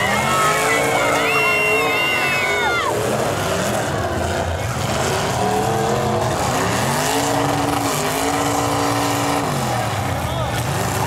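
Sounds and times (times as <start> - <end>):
car engines running hard: 0.0 - 11.0
engine revving: 0.0 - 11.0.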